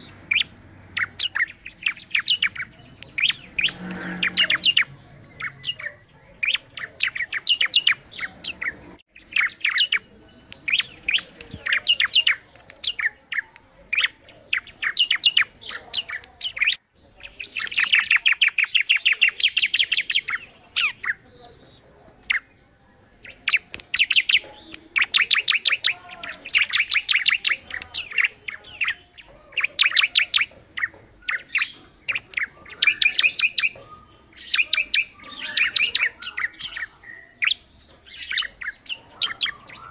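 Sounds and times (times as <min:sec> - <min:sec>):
bird chirping rapidly: 0:00.0 - 0:22.6, 0:23.2 - 0:39.9.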